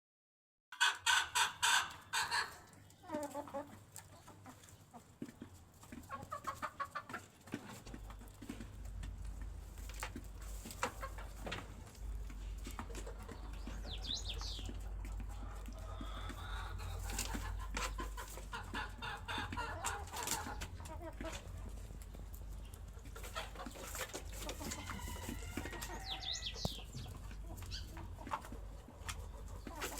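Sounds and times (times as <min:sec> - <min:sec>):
chickens clucking: 0:00.8 - 0:29.9.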